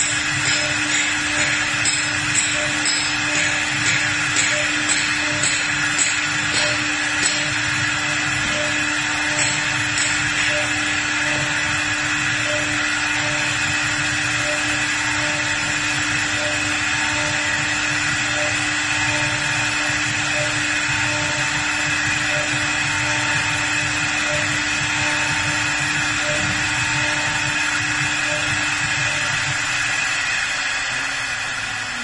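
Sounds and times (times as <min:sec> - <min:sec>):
machine spindle whine: 0:00.0 - 0:32.0.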